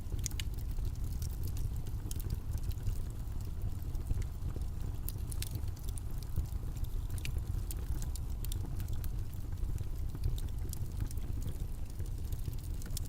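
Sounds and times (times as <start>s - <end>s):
faint clicks and ticks: 0.0s - 13.0s
low rumbling background noise: 0.0s - 13.0s.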